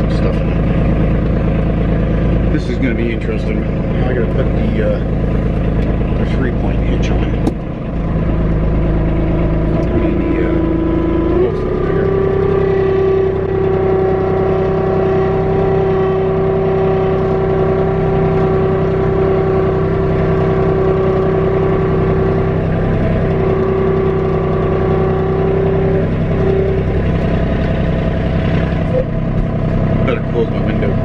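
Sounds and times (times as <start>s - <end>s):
strong steady whine: 0.0s - 31.0s
tractor diesel engine running: 0.0s - 31.0s.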